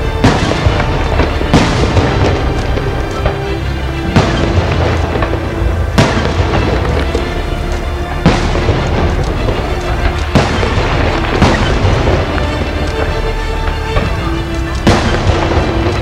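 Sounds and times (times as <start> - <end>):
firework shells booming: 0.0 - 16.0
fireworks crackling noise: 0.0 - 16.0
music playing: 0.0 - 16.0.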